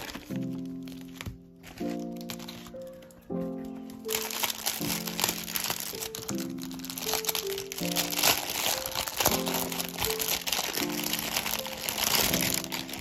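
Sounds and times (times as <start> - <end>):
plastic packaging crinkling: 0.0 - 13.0
soft background music: 0.0 - 13.0.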